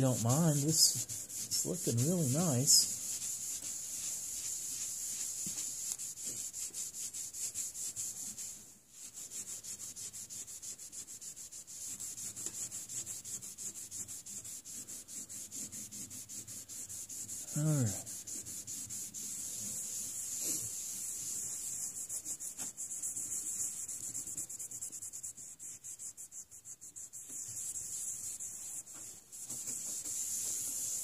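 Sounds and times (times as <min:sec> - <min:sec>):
paper towel scrubbing metal plate: 0:00.0 - 0:31.0.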